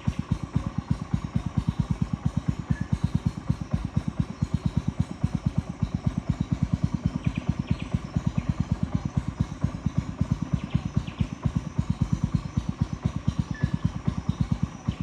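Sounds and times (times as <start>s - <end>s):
small boat engine putt-putt: 0.0s - 15.0s.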